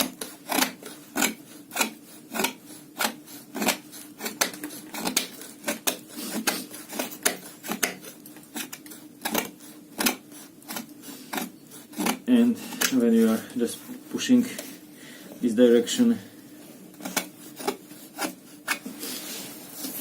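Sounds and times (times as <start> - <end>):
knife carving wooden stick: 0.0 - 14.8, 16.7 - 20.0.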